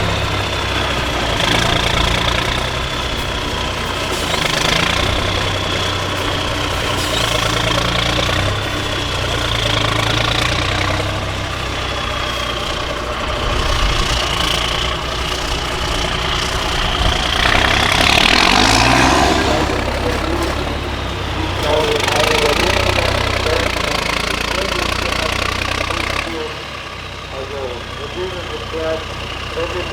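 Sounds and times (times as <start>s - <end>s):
diesel truck engine running: 0.0s - 29.9s.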